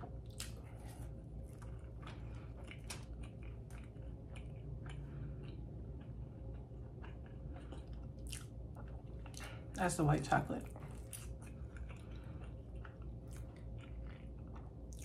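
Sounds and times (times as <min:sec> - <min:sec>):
person chewing: 0:00.0 - 0:09.8, 0:10.6 - 0:15.0.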